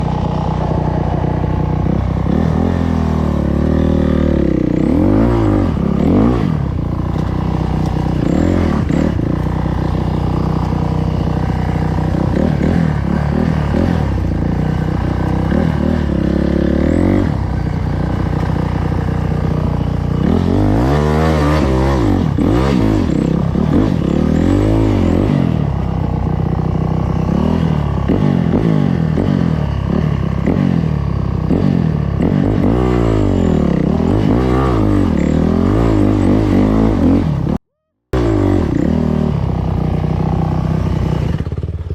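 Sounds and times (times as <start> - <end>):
dirt bike engines revving: 0.0 - 37.6, 38.2 - 41.4.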